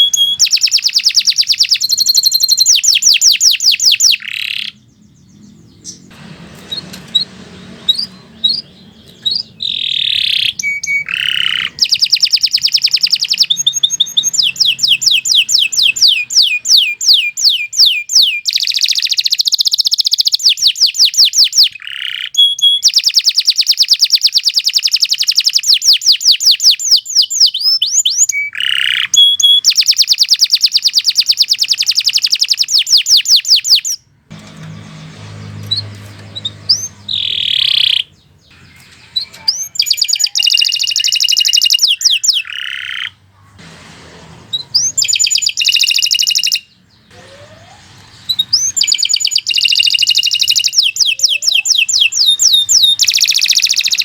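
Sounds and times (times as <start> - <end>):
canary singing trills: 0.0 - 43.5, 44.5 - 54.0.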